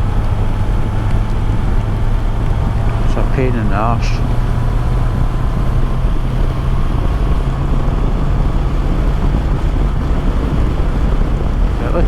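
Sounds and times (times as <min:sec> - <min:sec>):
motorcycle engine running: 0:00.0 - 0:12.0
wet road noise: 0:00.0 - 0:12.0
wind rush: 0:00.0 - 0:12.0.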